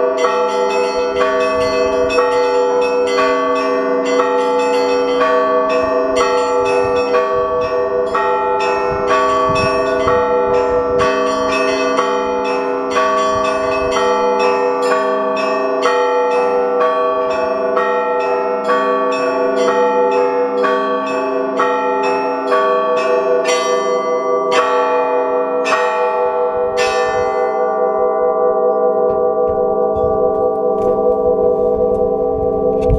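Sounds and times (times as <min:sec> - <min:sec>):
church bells pealing: 0:00.0 - 0:32.9.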